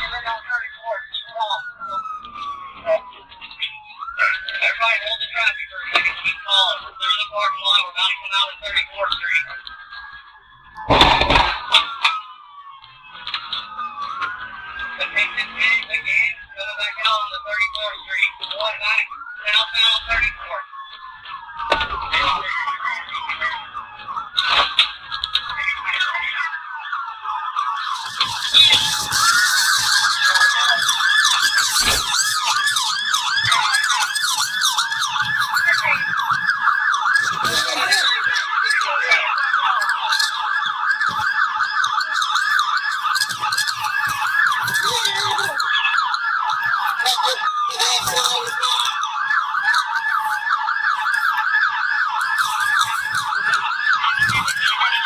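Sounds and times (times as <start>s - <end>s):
police siren yelping: 0.0s - 55.0s.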